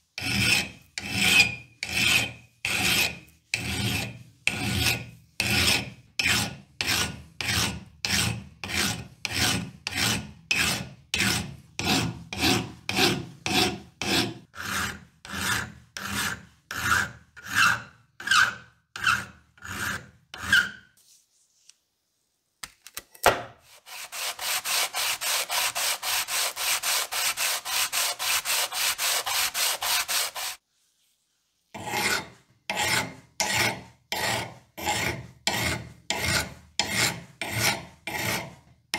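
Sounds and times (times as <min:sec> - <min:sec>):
hand file rasping on iron: 0:00.2 - 0:21.0, 0:23.7 - 0:30.6, 0:31.7 - 0:38.6.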